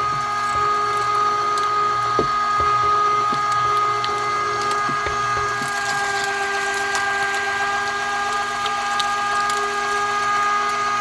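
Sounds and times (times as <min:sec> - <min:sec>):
meat grinder motor whine: 0:00.0 - 0:11.0.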